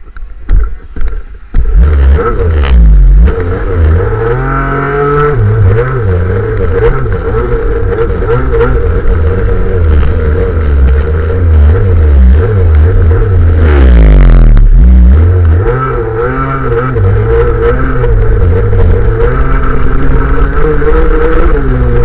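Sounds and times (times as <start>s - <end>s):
racing scooter engine at full throttle: 0.5s - 22.0s.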